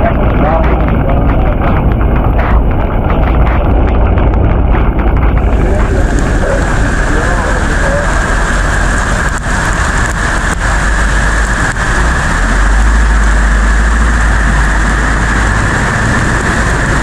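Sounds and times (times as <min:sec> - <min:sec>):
floodwater rushing down a street: 0:00.0 - 0:17.0
heavy low rumble: 0:00.0 - 0:17.0.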